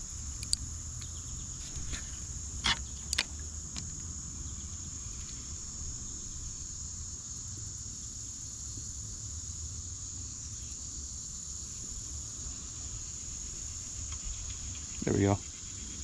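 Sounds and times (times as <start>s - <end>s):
insects singing drone: 0.0s - 16.0s.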